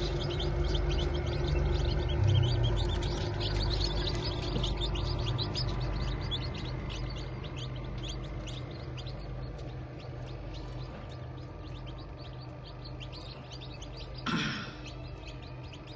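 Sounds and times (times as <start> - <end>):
chicks peeping: 0.0 - 15.9
steady low hum: 0.0 - 15.9.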